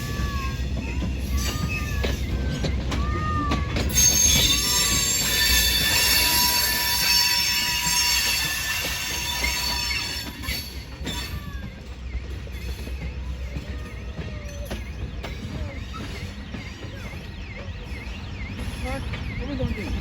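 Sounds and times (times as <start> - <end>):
railroad cars rumbling: 0.0 - 20.0
steel wheels squealing on rails: 0.0 - 20.0
wheels clicking: 0.0 - 20.0.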